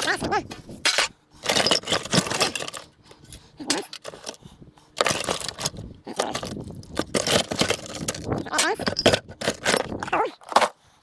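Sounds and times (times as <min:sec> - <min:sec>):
scrap metal clinking and rattling: 0:00.0 - 0:04.4, 0:05.0 - 0:10.7.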